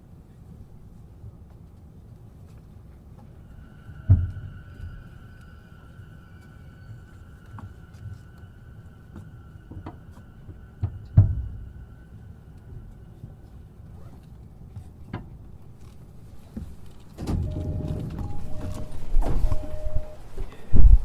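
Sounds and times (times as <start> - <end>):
train cabin low rumble: 0.0 - 21.0
thin steady whine: 2.5 - 21.0.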